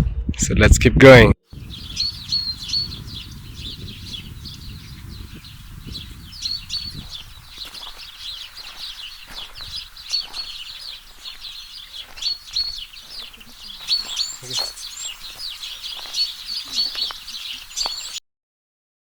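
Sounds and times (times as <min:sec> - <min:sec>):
birds chirping: 0:01.5 - 0:18.2.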